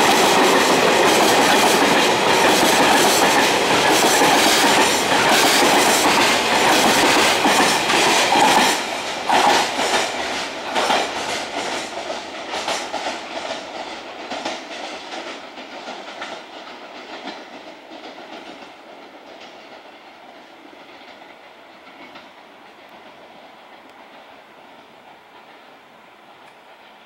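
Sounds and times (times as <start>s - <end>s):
train wheels clattering over rail joints: 0.0s - 25.7s.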